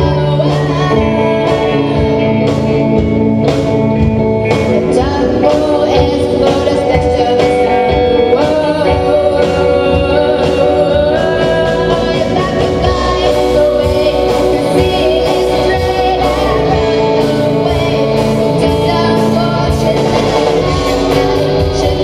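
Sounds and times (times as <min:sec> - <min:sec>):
person singing: 0:00.0 - 0:22.0
rock band playing live: 0:00.0 - 0:22.0.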